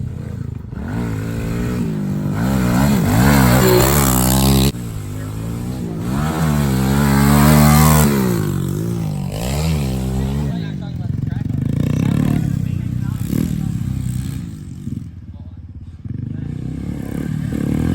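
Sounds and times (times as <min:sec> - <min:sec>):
pit bike engine revving: 0:00.0 - 0:17.9.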